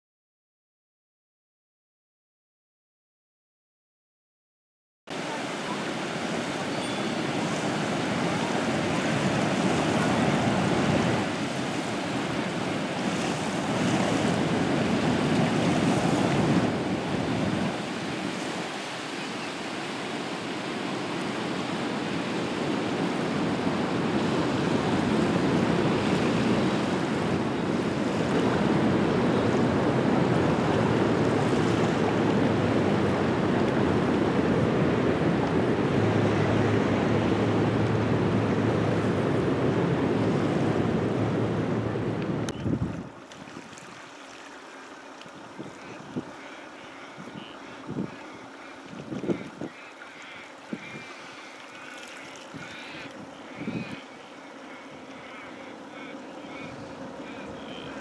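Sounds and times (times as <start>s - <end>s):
floodwater rushing: 5.1s - 58.0s.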